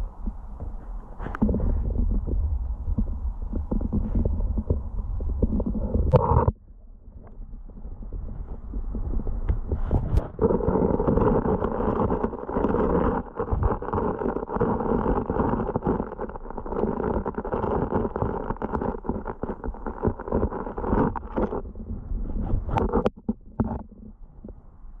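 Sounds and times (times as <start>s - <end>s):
muffled underwater stream rush: 0.0s - 25.0s.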